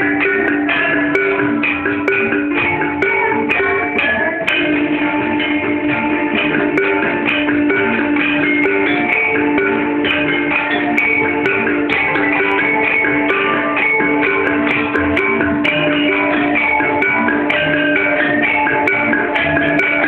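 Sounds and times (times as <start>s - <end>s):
gamelan metallophones ringing: 0.0s - 20.0s.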